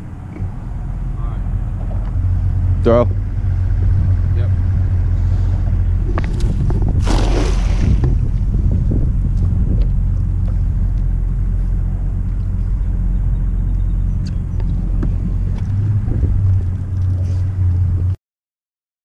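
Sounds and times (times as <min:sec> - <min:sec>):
outboard motor idling: 0:00.1 - 0:18.1.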